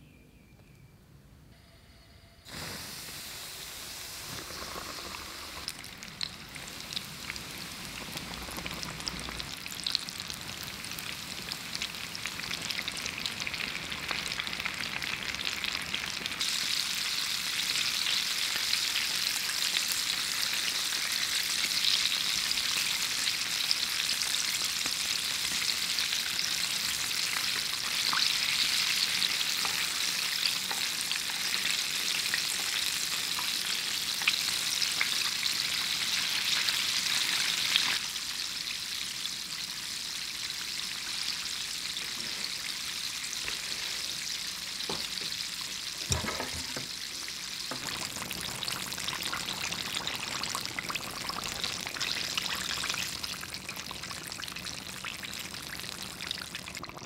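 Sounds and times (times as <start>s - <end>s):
chicken deep-frying in oil: 2.5s - 57.0s.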